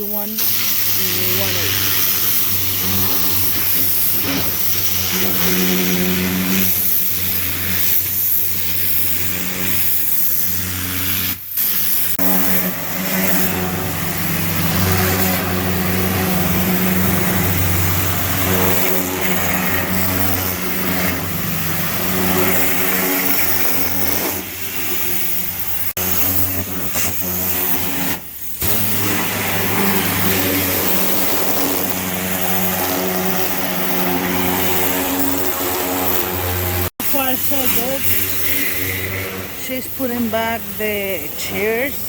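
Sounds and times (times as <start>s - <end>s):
pressure washer engine running: 0.0s - 42.0s
water spray hissing on floor: 0.0s - 42.0s.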